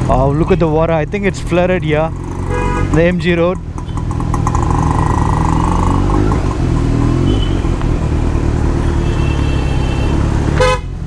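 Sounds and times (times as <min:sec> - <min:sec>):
motorcycle engine running: 0:00.0 - 0:11.0
road noise through water: 0:00.0 - 0:11.0.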